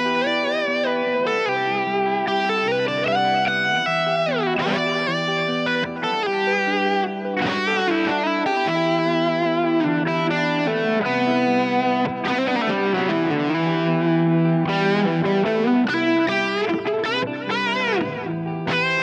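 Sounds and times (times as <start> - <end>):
electric guitar lead solo: 0.0 - 19.0.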